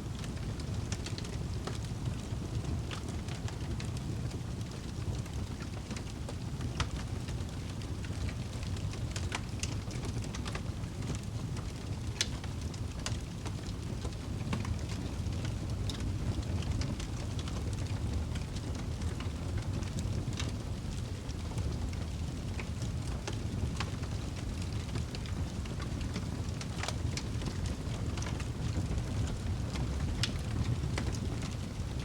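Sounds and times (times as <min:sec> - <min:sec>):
fire roaring in fireplace: 0:00.0 - 0:32.0
wood crackling and popping: 0:00.0 - 0:32.0.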